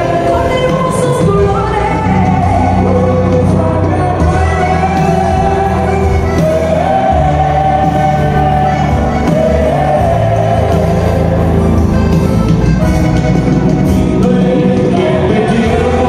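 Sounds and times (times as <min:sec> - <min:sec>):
voices singing together: 0:00.0 - 0:12.3, 0:13.8 - 0:16.0
live band music: 0:00.0 - 0:16.0
steady bass line: 0:00.0 - 0:16.0.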